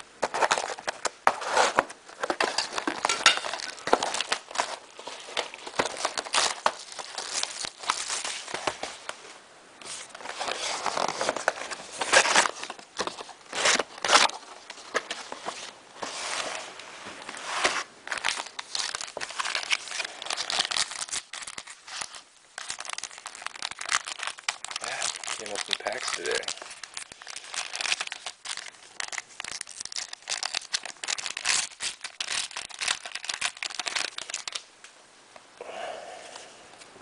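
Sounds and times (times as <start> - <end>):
plastic wrapping crinkling and tearing: 0.2 - 34.7.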